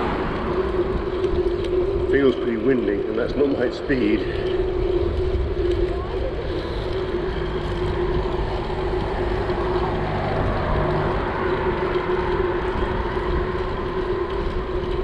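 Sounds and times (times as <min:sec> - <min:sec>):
constant hum: 0:00.0 - 0:15.0
wind and road noise from bicycle: 0:00.0 - 0:15.0.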